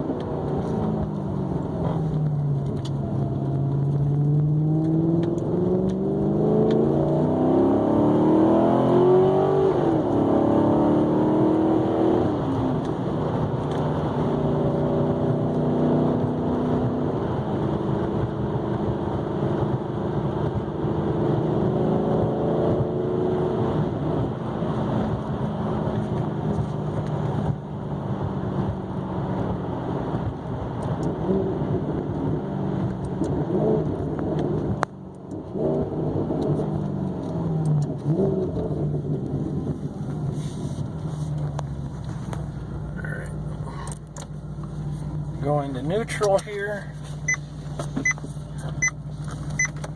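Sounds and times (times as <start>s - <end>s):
car engine accelerating: 0.0s - 49.9s.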